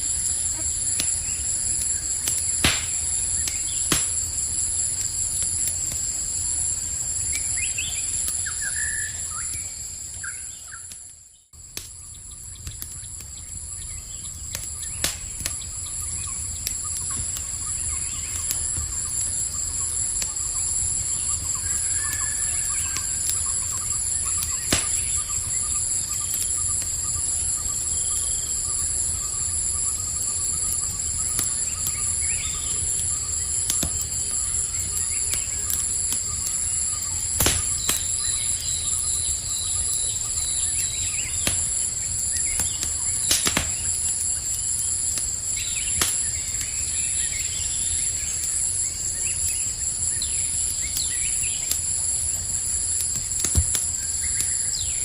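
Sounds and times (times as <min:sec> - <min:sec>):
campfire crackling: 0:00.0 - 0:55.0
insects trilling: 0:00.0 - 0:55.0.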